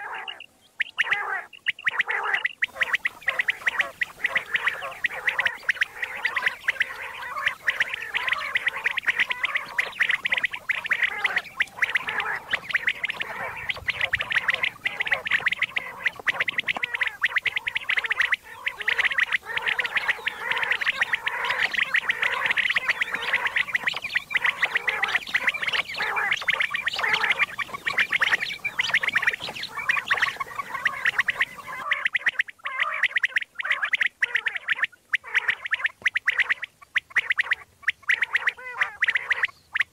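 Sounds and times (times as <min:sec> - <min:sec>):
quail calls chattering: 0:00.0 - 0:39.9.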